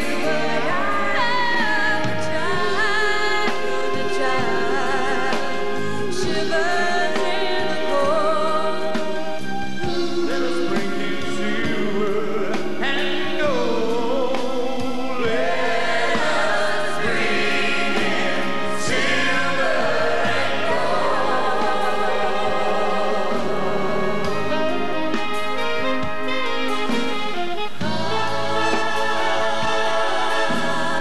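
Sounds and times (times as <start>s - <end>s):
group singing in harmony: 0.0s - 27.0s, 27.7s - 31.0s
live band playing: 0.0s - 31.0s.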